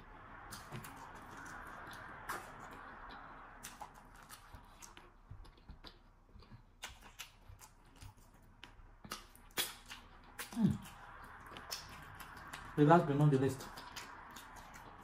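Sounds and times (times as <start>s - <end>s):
chewing and lip smacking: 0.4s - 15.0s.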